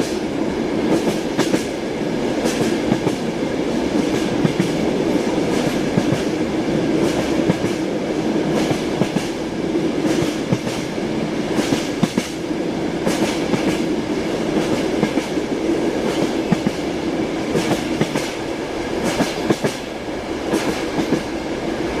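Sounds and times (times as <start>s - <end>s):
train wheels clacking: 0.0s - 0.3s, 0.9s - 7.9s, 8.5s - 9.4s, 10.0s - 21.4s
train rumble: 0.0s - 22.0s.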